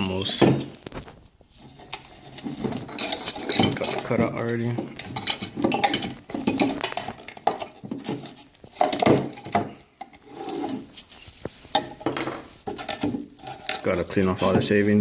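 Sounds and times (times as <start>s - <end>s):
hard plastic knocking and clattering: 0.3s - 13.8s.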